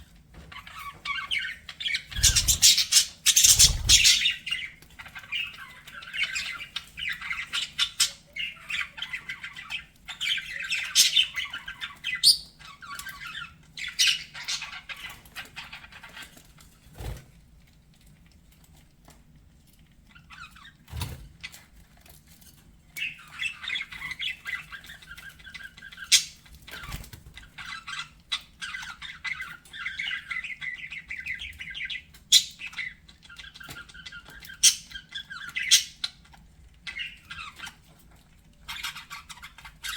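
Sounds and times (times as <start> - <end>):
budgerigars chattering and chirping: 0.5 - 16.3, 23.0 - 37.9, 38.6 - 39.9.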